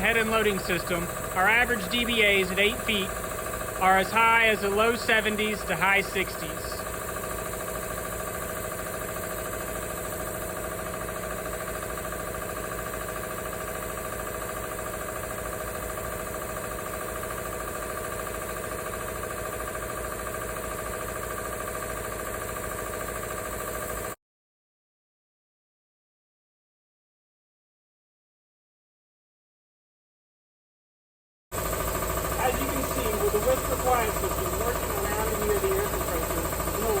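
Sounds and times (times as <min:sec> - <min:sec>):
air compressor drone: 0:00.0 - 0:24.2, 0:31.5 - 0:37.0.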